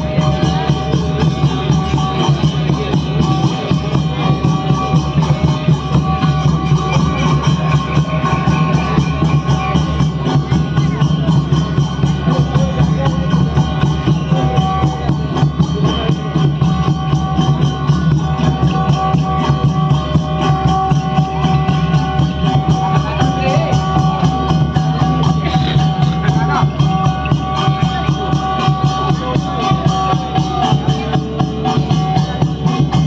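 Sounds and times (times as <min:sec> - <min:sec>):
fast steady drumming: 0:00.0 - 0:33.0.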